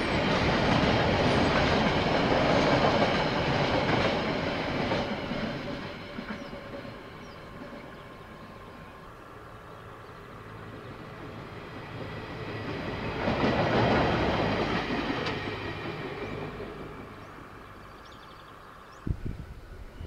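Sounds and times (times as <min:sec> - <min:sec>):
diesel locomotive passing: 0:00.0 - 0:20.0.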